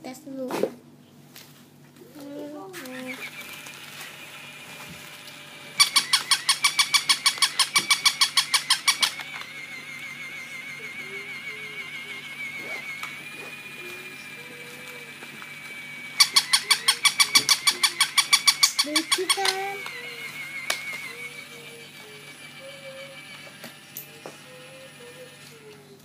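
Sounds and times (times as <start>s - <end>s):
toy short high electronic sounds: 2.8s - 26.0s.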